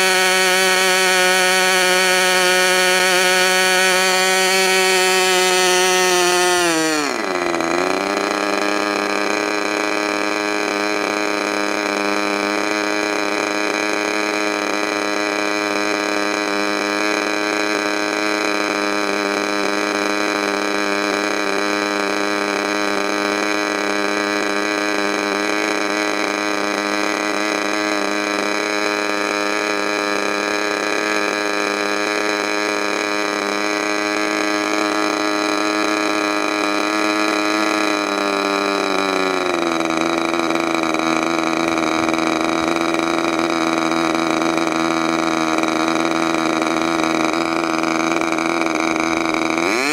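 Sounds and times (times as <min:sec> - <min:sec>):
model aircraft engine running: 0:00.0 - 0:49.9.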